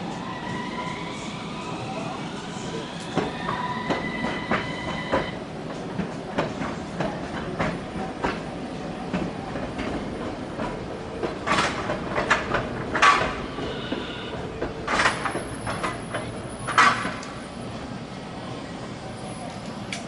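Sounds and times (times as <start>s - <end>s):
streetcar wheels clacking on rails: 1.9s - 20.0s.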